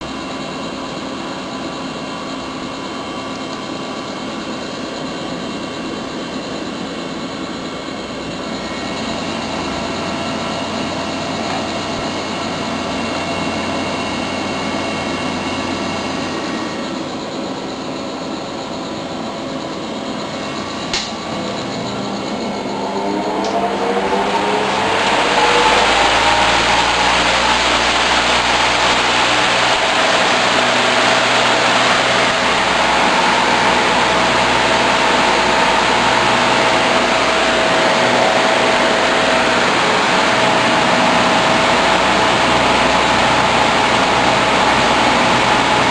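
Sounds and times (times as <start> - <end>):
electric fan whirring: 0.0 - 45.9.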